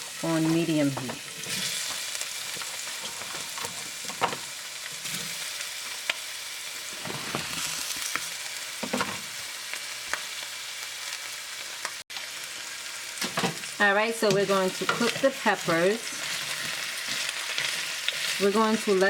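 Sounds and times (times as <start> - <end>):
peppers sizzling in oil: 0.0 - 19.0.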